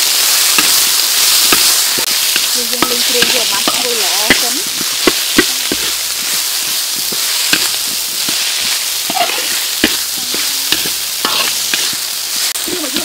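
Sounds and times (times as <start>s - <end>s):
paste sizzling in oil in a wok: 0.0s - 13.0s
metal spatula scraping a wok: 0.2s - 13.0s.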